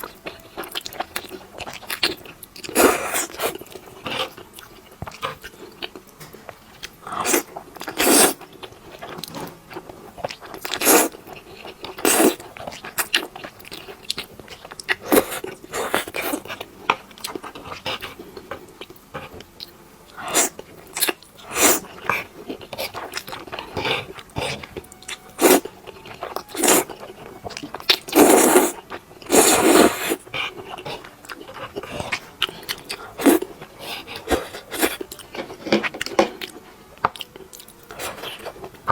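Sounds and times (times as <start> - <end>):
person chewing with crunch: 0.0 - 38.9.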